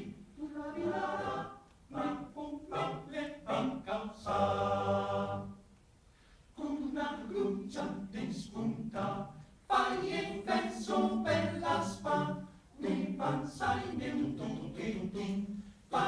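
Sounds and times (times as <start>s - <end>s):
male choir singing a cappella: 0.0s - 5.6s, 6.6s - 16.0s.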